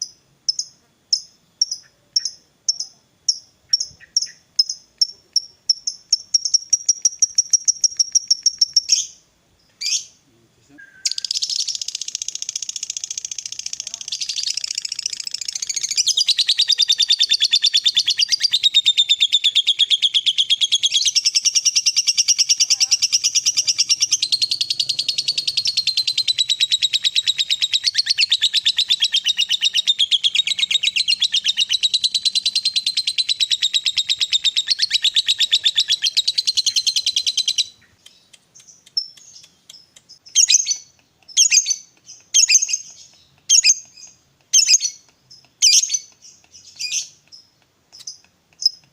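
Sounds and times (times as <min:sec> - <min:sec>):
lovebird chattering trill: 0:00.0 - 0:09.2, 0:10.8 - 0:48.8
bird chirping bursts: 0:00.0 - 0:48.8.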